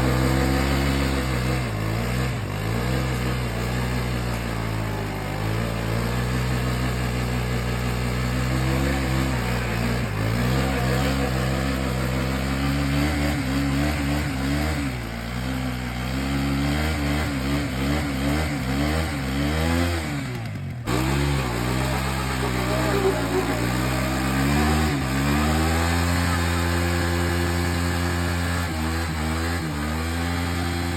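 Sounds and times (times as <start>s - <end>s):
motorcycle engine revving hard: 0.0s - 30.9s.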